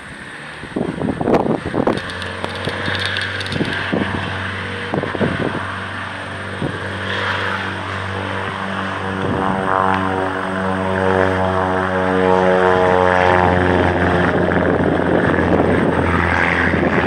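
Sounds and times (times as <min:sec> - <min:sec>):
propeller aircraft engine: 0:00.0 - 0:17.0
wind buffeting microphone: 0:00.4 - 0:17.0.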